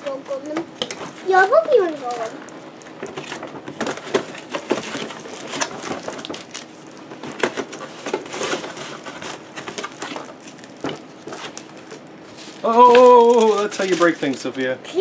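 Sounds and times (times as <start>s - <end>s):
cardboard and plastic packaging rustling: 0.0s - 14.8s.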